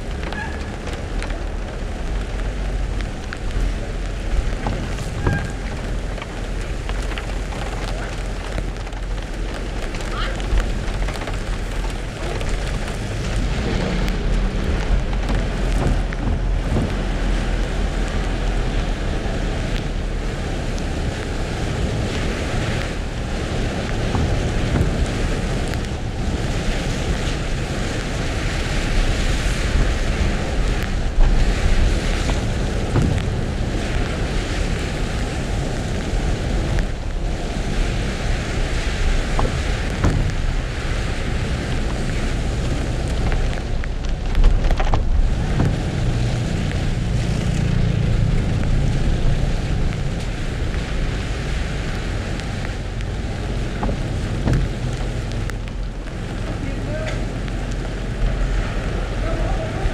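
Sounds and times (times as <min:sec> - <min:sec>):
rain on car roof: 0:00.0 - 0:59.9
tyres on wet road: 0:00.0 - 0:59.9.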